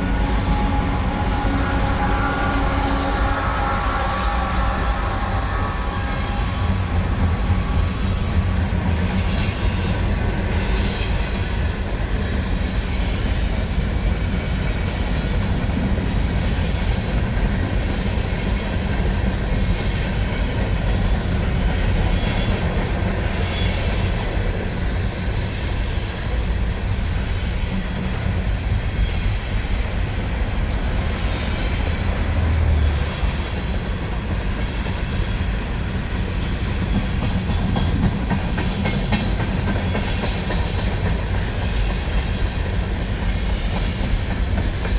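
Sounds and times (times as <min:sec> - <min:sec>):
freight train rail noise: 0:00.0 - 0:44.9.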